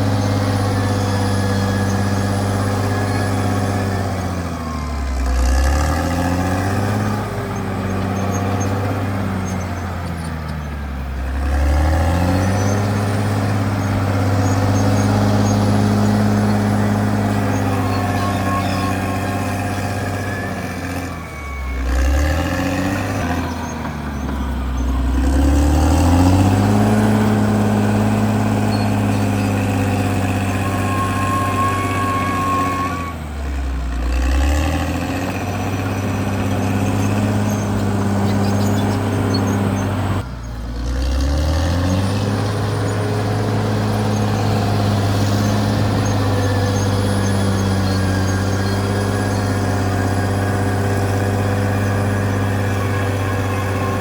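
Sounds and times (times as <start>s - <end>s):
high squeal: 0.0s - 40.6s, 41.3s - 54.0s
bulldozer diesel engine: 0.0s - 54.0s.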